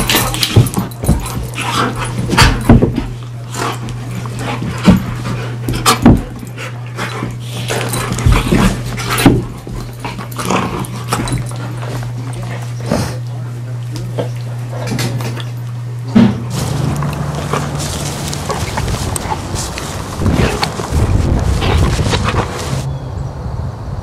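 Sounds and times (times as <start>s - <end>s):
dogs scuffling: 0.0s - 22.9s
dogs vocalizing while playing: 0.0s - 22.9s.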